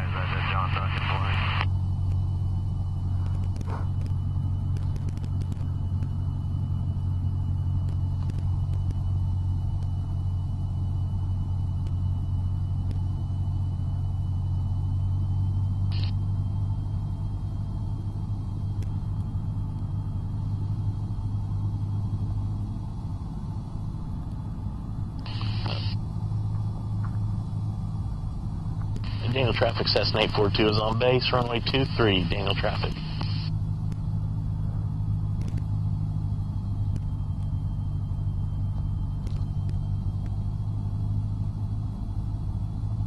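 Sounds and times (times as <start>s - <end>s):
faint high whine: 0.0s - 43.0s
light aircraft engine droning: 0.0s - 43.0s.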